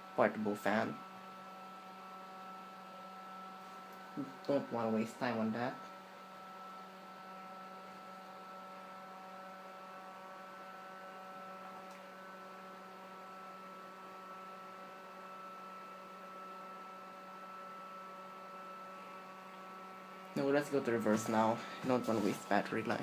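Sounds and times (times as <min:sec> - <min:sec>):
electric fan motor hum: 0:00.0 - 0:23.0.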